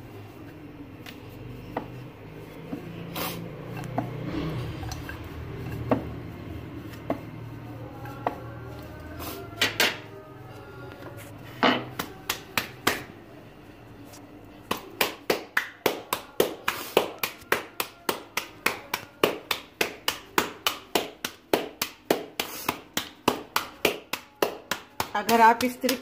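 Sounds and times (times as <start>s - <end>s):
hands slapping dough: 0.1s - 10.1s, 11.8s - 13.2s, 14.5s - 26.0s.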